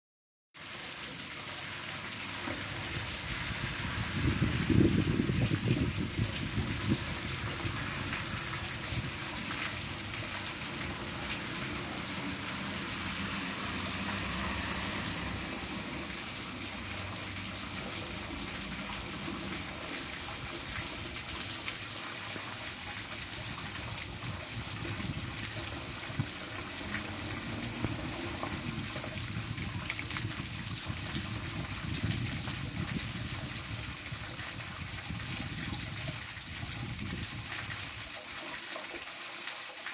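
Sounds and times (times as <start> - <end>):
steady rain falling: 0.6 - 36.0.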